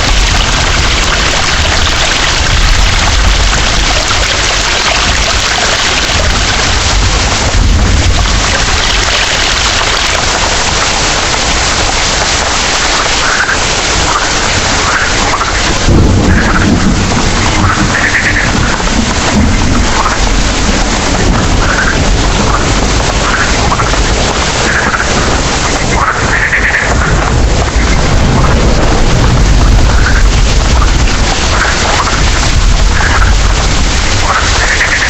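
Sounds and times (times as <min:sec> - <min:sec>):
low rumble of thunder: 0:00.0 - 0:10.5, 0:14.0 - 0:35.0
heavy rain pouring: 0:00.0 - 0:35.0.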